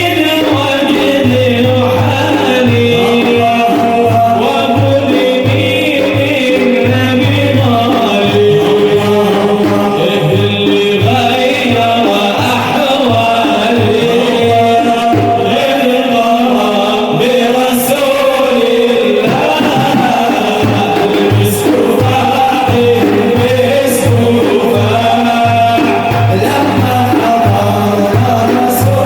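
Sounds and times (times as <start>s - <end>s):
hand drum beat: 0.0s - 29.0s
men chanting: 0.0s - 29.0s.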